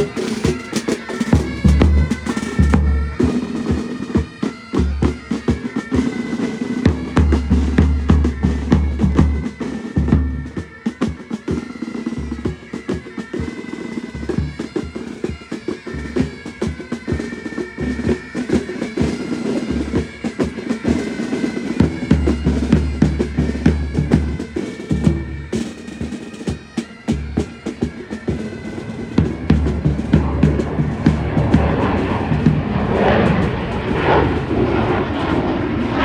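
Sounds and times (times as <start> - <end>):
snare drumming: 0.0 - 12.2, 12.8 - 34.2
bagpipes: 0.0 - 36.0.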